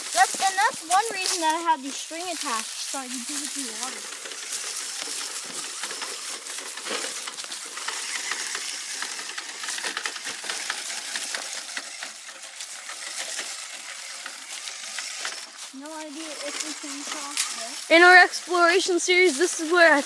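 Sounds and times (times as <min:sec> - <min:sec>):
dry leaves and twigs crunching: 0:00.0 - 0:20.0.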